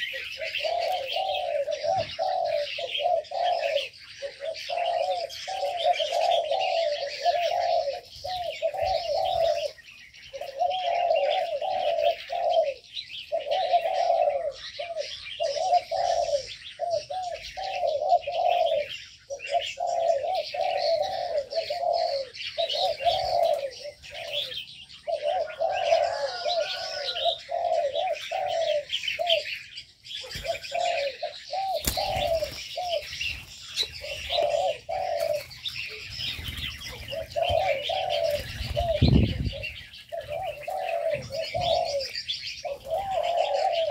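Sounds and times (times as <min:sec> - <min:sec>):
doves cooing: 0:00.0 - 0:43.9
small birds chirping: 0:00.0 - 0:43.9.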